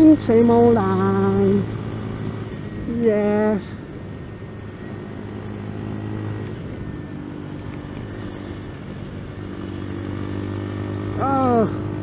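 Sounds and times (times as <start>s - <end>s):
motorcycle engine running: 0.0s - 12.0s
road and wind hiss: 0.0s - 12.0s.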